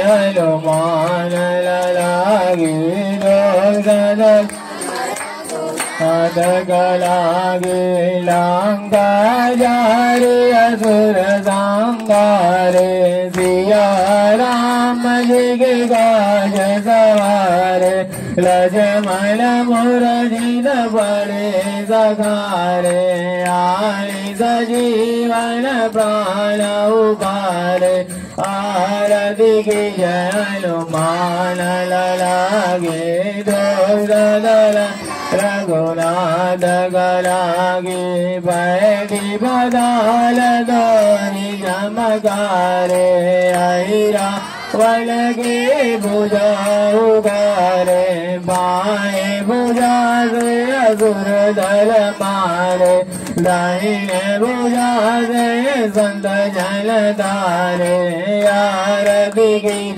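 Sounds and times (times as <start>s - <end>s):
person singing devotional melody: 0.0s - 59.9s.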